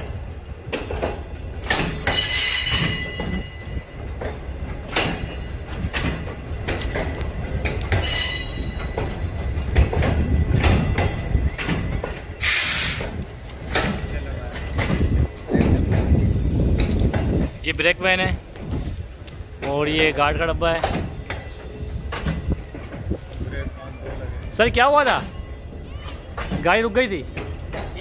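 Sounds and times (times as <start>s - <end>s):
train rumble and wheel clatter: 0.0s - 28.0s
wheels squealing: 0.0s - 28.0s.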